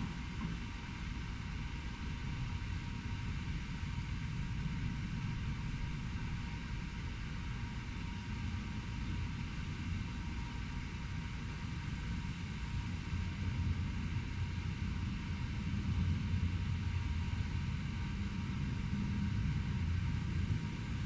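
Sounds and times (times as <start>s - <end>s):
low rumble of urban traffic: 0.0s - 21.0s.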